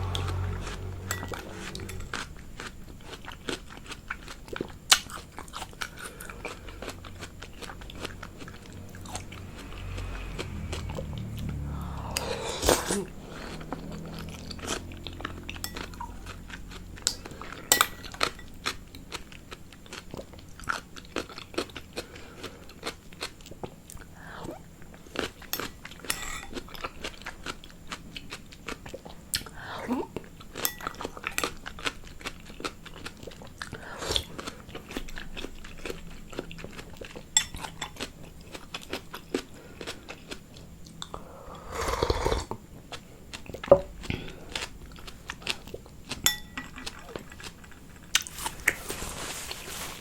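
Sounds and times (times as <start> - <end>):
chewing and crunching food: 0.0 - 50.0.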